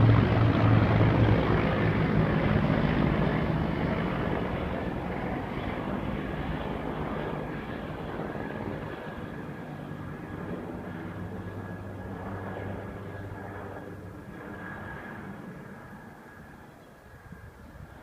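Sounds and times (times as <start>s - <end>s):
helicopter rotor drone: 0.0s - 18.0s
turbine whine: 0.0s - 18.0s.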